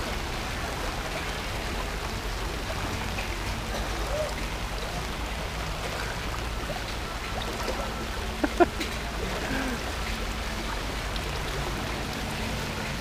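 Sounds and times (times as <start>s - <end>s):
rain falling on flooded street: 0.0s - 13.0s.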